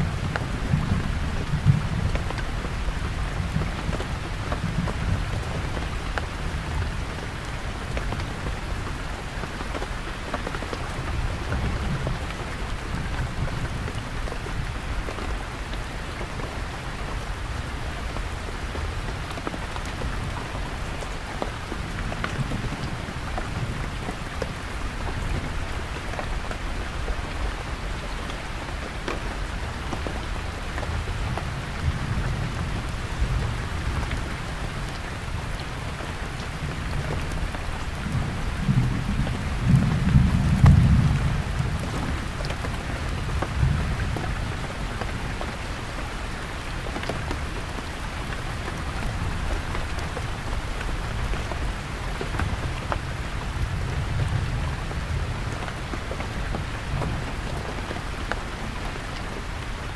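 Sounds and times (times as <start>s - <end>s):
heavy rain on tent: 0.0s - 59.9s.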